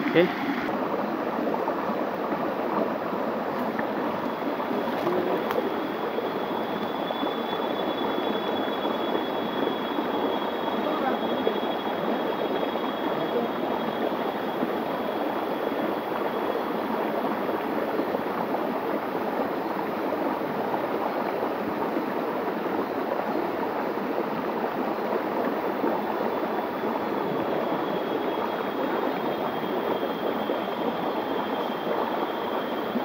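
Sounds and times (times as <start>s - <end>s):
stream rushing over rocks: 0.0s - 33.0s.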